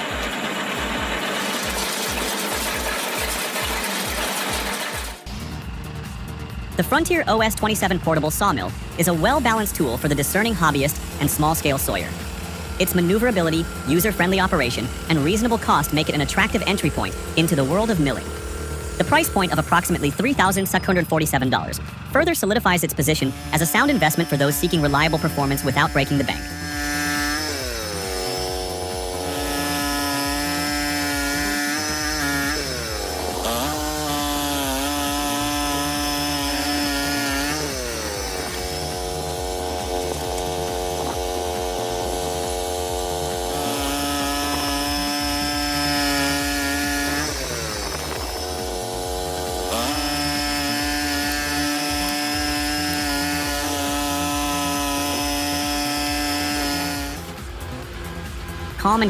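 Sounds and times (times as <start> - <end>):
band sawmill engine running: 0.0 - 59.0.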